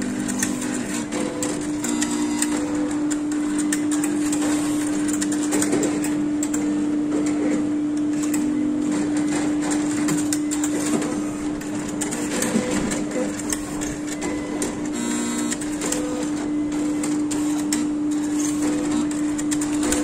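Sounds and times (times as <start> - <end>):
analyser machine humming and whirring: 0.0 - 20.0
machine clicks: 0.1 - 20.0.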